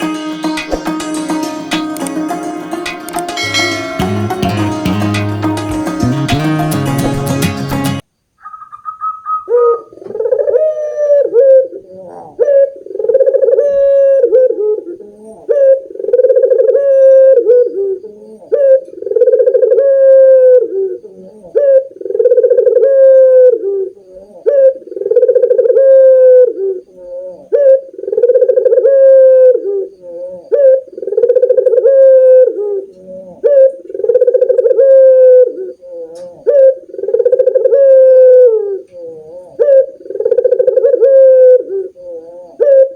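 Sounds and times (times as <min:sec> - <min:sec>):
doves cooing: 0:08.4 - 0:42.9.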